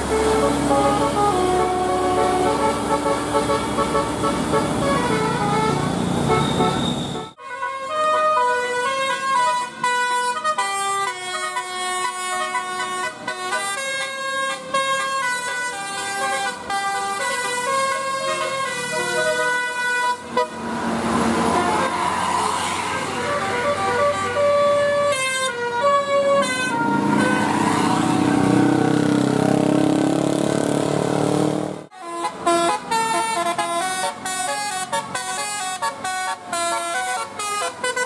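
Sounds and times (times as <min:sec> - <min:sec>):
multi-tone air horn tune: 0:00.0 - 0:20.7, 0:22.8 - 0:28.6, 0:31.9 - 0:38.0.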